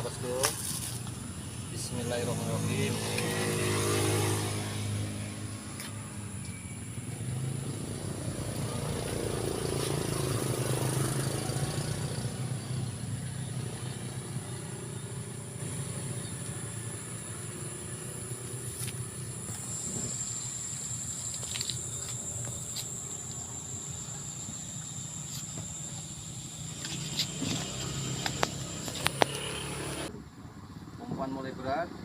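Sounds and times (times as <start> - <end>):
high-pitched whine: 0.0 - 30.1
vehicle engine running: 0.0 - 31.2.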